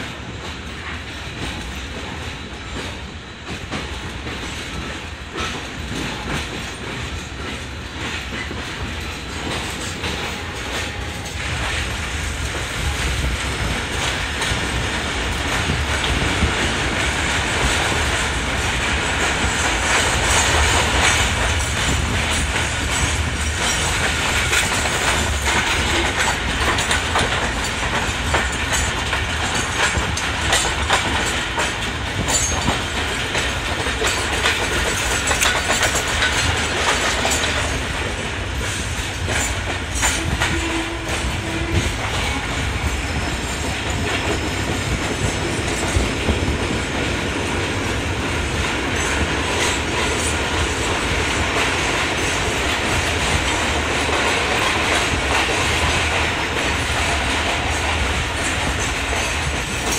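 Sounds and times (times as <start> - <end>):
train rumble: 0.0 - 59.9
wheels clattering over rail joints: 0.6 - 59.9.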